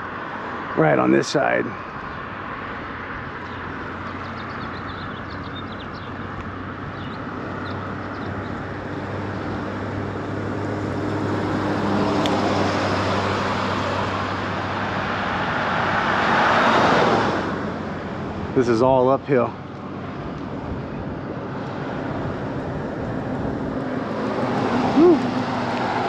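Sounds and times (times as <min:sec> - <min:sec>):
vehicles passing on road: 0:00.0 - 0:26.0
low engine hum: 0:01.8 - 0:26.0.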